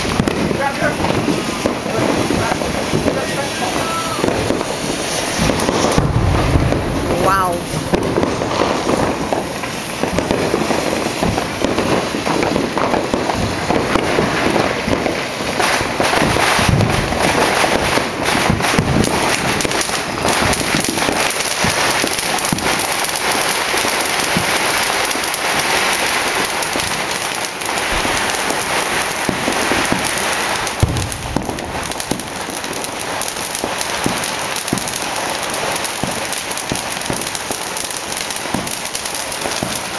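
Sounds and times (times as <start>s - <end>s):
fireworks and firecrackers barrage: 0.0s - 39.9s.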